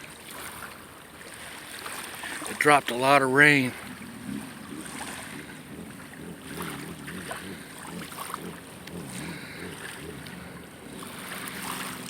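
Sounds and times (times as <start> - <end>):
boat motor running: 0.0 - 12.0
wind on microphone: 2.3 - 12.0.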